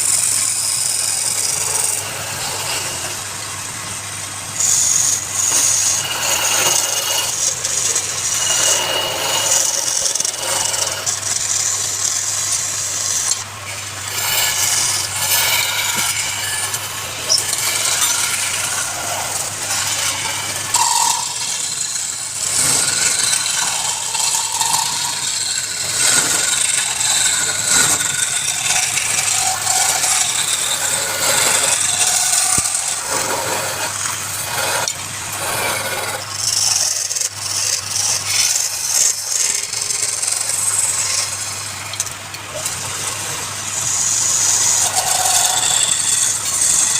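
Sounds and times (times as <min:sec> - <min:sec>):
lathe motor hum: 0:00.0 - 0:46.9
tool scraping spinning wood: 0:00.0 - 0:46.9.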